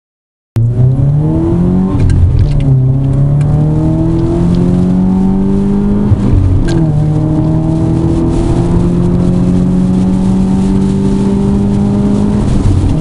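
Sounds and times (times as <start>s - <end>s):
car engine accelerating hard: 0.6s - 13.0s.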